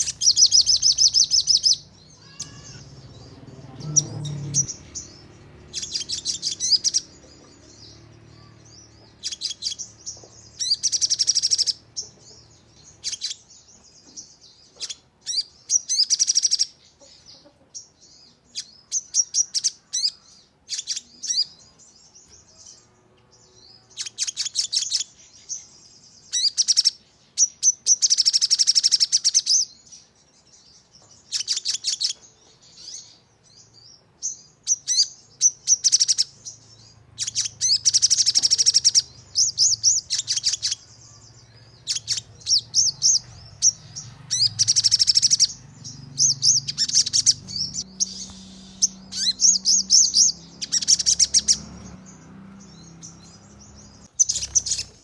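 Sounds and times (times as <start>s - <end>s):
bird singing chirps and trills: 0.0s - 55.0s.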